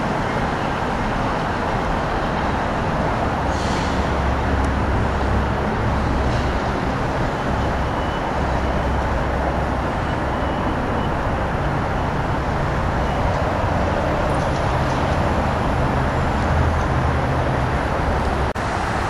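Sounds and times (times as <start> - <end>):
train wheels and engine rumble: 0.0 - 19.0.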